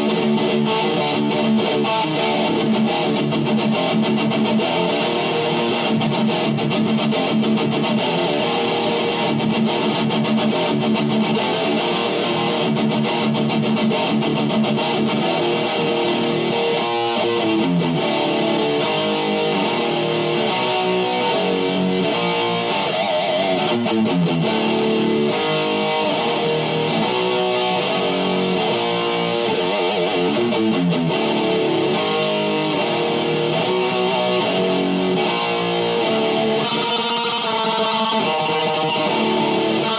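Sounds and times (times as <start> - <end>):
distorted electric guitar riffs: 0.0 - 39.9.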